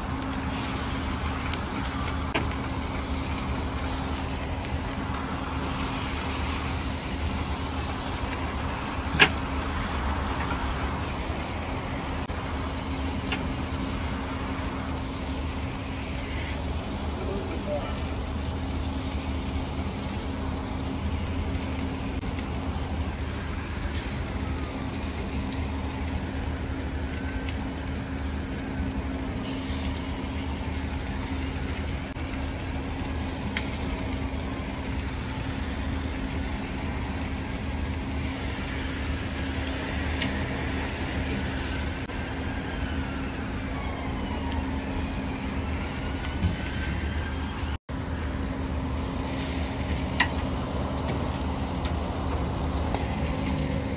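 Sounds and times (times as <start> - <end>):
low engine-like hum: 0.0 - 53.9
meat sizzling on a grill: 0.0 - 53.9.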